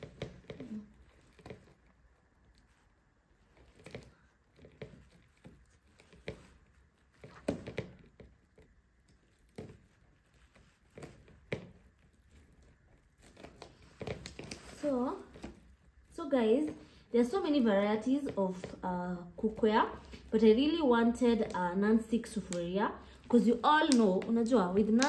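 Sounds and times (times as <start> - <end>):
cardboard rustles and taps: 0.0 - 25.0.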